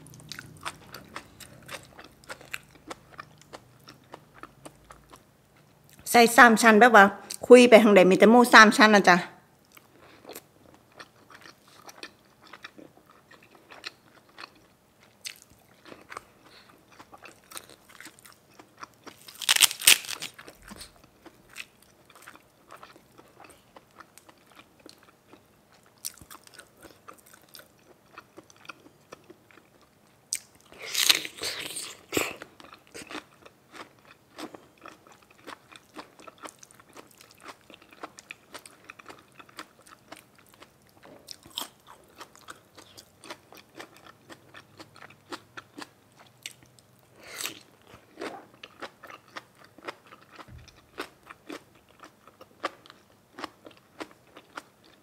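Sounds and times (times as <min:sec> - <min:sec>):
person chewing crunchy food: 0:00.0 - 0:06.0, 0:09.6 - 0:55.0.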